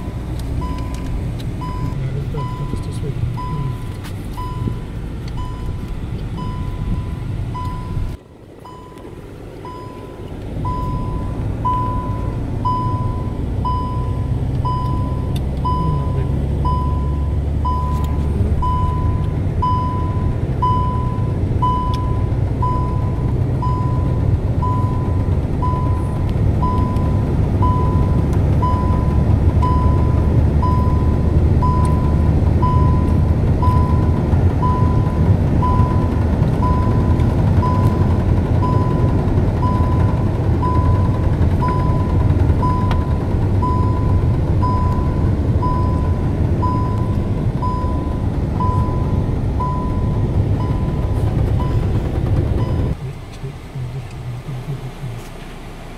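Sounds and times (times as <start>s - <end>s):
electronic dashboard beep: 0.0s - 55.2s
car engine and tyres rumbling: 0.0s - 55.9s.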